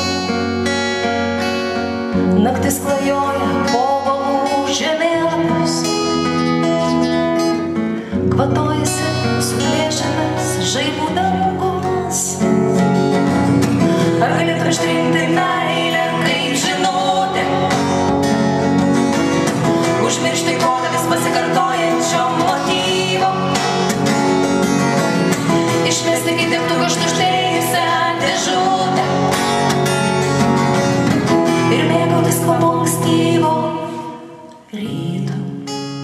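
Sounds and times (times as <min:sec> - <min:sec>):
acoustic guitars strummed and picked: 0:00.0 - 0:36.0.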